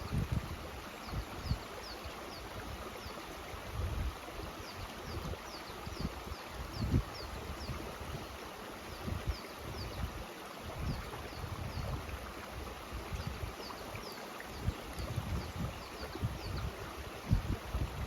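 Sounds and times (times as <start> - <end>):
wind rumble on microphone: 0.0 - 13.7, 14.5 - 18.0
mountain stream rushing: 0.0 - 18.0.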